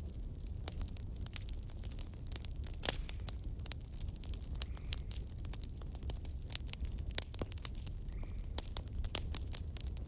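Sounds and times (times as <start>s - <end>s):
fire crackling and popping: 0.0s - 10.0s
low steady fire rumble: 0.0s - 10.0s.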